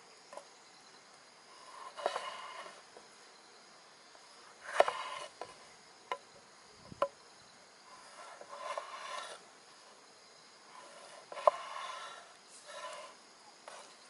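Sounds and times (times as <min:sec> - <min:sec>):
insect buzzing: 0:00.0 - 0:14.0.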